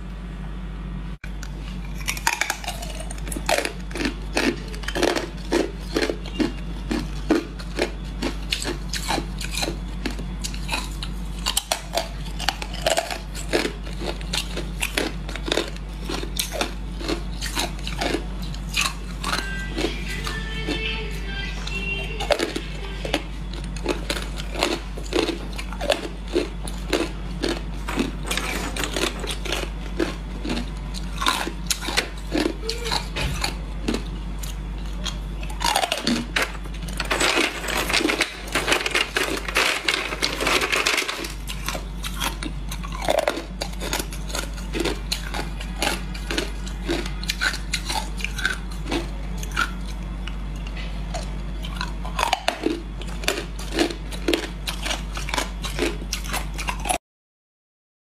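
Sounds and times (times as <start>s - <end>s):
steady low hum: 0.0s - 57.0s
person chewing hard ice: 1.3s - 57.0s.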